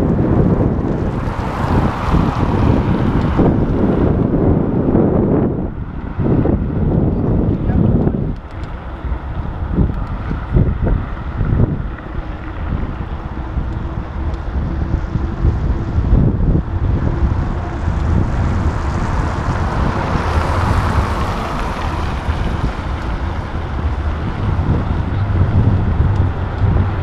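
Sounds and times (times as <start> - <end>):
city traffic noise: 0.0 - 27.0
wind buffeting microphone: 0.0 - 27.0.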